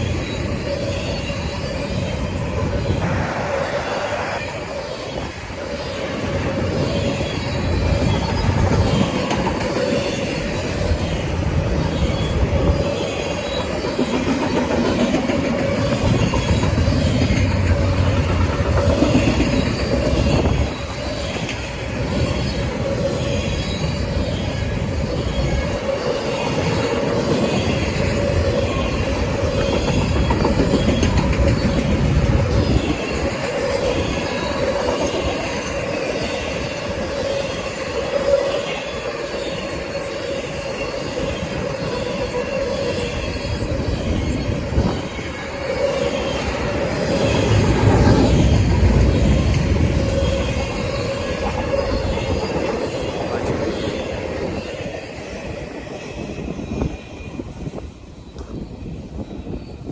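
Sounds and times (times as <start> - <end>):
freight train rumble: 0.0 - 59.9
high wheel squeal: 0.0 - 59.9
wheels clacking over rail joints: 6.2 - 55.2.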